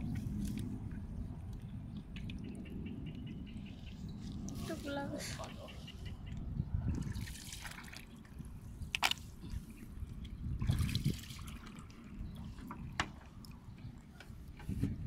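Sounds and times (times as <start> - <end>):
water drips and small splashes: 0.0 - 15.0
water trickling through grass: 0.0 - 15.0.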